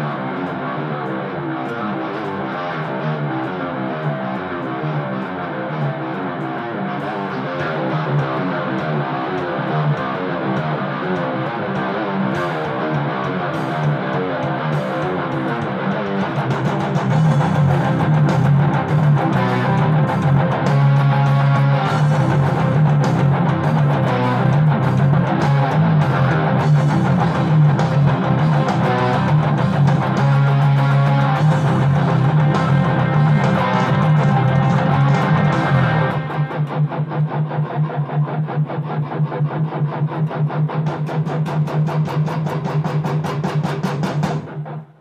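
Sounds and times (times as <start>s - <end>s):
distorted electric guitar riffs: 0.0s - 45.0s.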